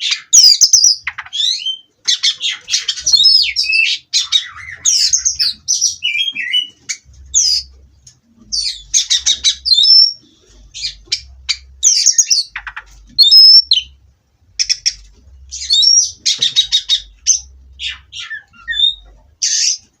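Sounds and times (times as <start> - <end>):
bird singing: 0.0 - 20.0.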